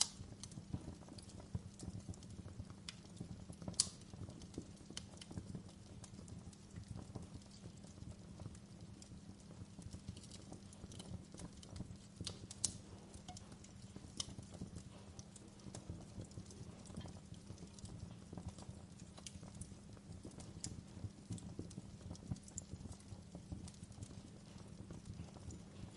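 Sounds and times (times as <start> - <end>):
low rumble of burning fire: 0.0 - 25.9
wood fire pops and snaps: 0.0 - 25.9.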